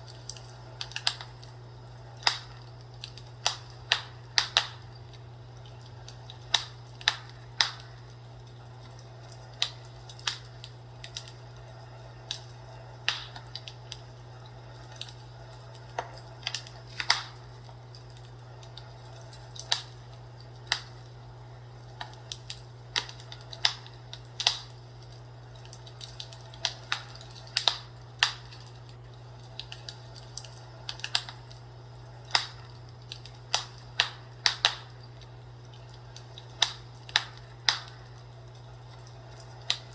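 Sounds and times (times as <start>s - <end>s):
steady low hum: 0.0s - 39.9s
wood fire crackling and popping: 0.0s - 39.9s.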